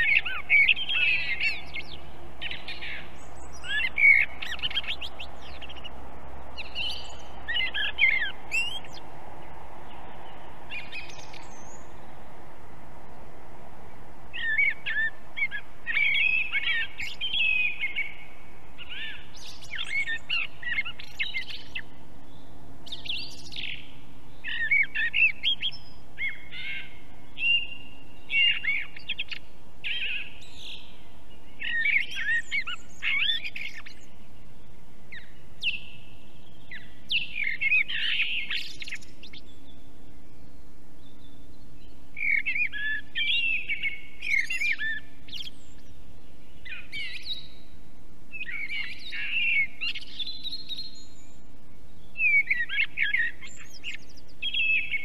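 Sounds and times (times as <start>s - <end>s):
birds chirping and warbling: 0.0s - 12.4s, 14.3s - 55.0s.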